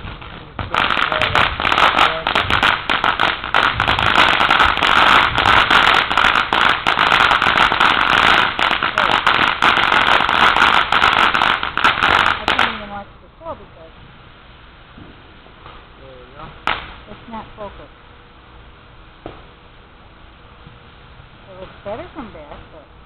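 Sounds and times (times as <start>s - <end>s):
firework fountain hissing and crackling: 0.0s - 23.0s.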